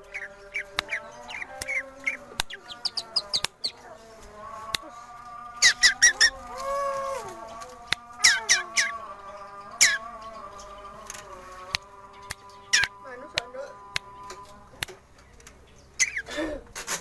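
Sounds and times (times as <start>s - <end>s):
shrike singing chirps and clicks: 0.0s - 4.9s, 5.5s - 16.3s.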